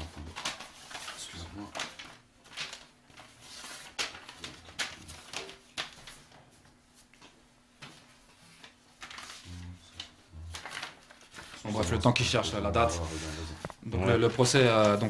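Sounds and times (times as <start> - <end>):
paper crackling: 0.0 - 15.0
paper rustling: 0.0 - 15.0.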